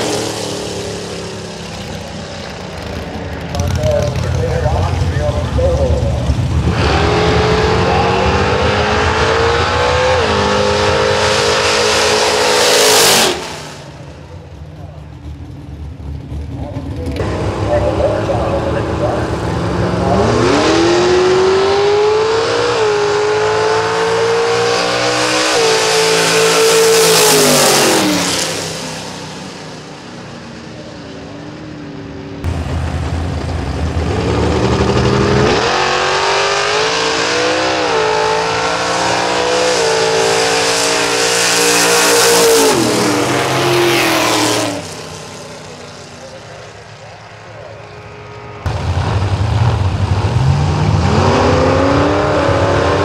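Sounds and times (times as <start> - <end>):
drag car engines accelerating: 0.0 - 53.0.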